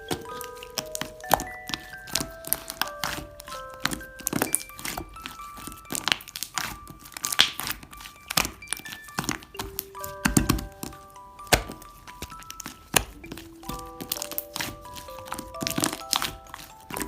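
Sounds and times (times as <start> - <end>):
music box melody: 0.0 - 17.0.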